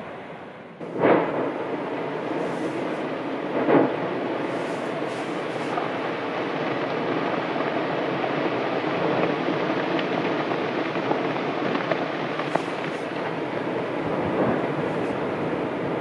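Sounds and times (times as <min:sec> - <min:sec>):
lava fountain rushing: 0:00.8 - 0:16.0.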